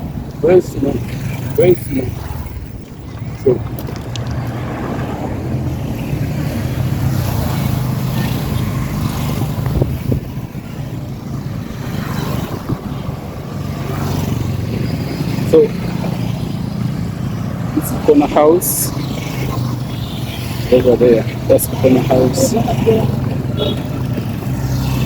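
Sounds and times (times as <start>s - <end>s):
road and wind noise: 0.0s - 25.0s
vehicle engine humming: 0.0s - 25.0s.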